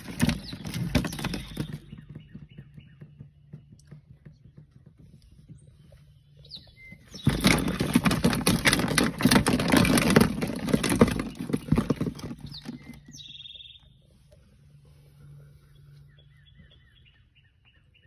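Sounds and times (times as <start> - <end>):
bird chirping: 0.0 - 8.0, 10.6 - 18.0.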